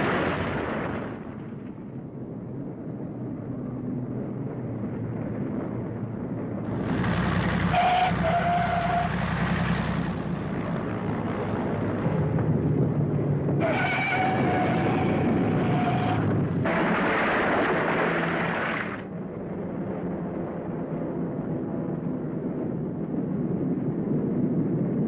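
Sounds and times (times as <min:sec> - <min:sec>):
propeller aircraft engine drone: 0:00.0 - 0:13.7, 0:14.4 - 0:25.0.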